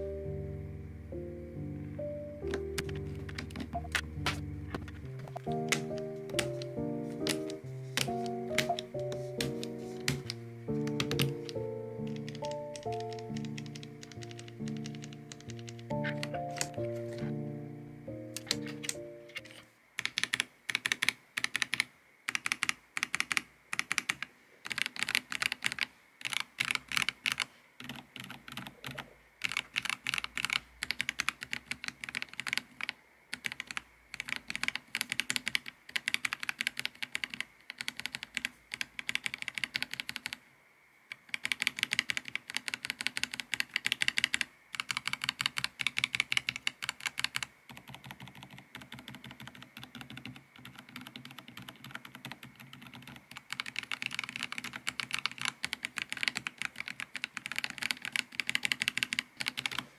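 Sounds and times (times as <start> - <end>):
mechanical keyboard keys clacking: 2.4 - 17.3, 18.4 - 40.4, 41.1 - 59.9.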